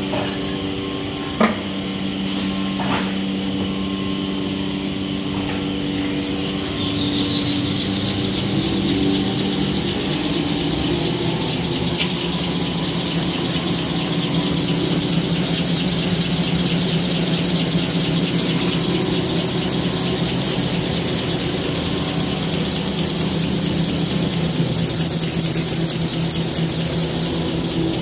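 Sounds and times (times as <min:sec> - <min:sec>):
machine high whine: 0:00.0 - 0:28.0
machine steady hum: 0:00.0 - 0:28.0
rhythmic pulsing of rollers: 0:00.0 - 0:28.0.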